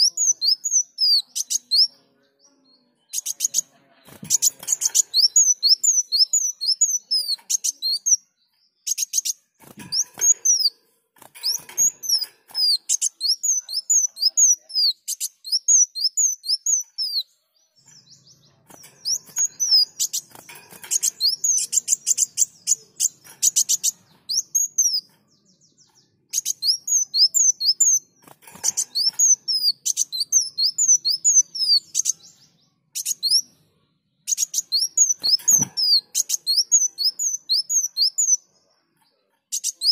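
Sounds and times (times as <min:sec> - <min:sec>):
sunbird chirping: 0:00.0 - 0:33.5, 0:34.2 - 0:39.9.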